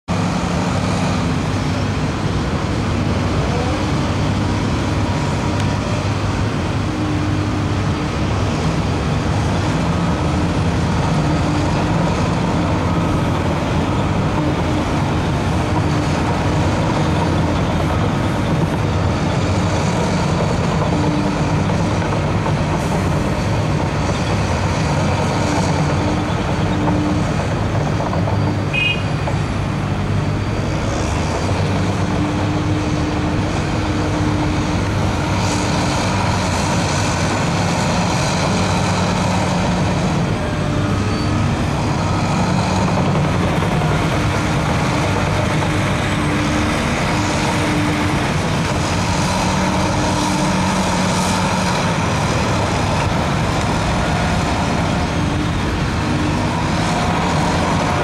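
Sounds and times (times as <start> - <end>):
heavy diesel engines running: 0.1 - 58.0.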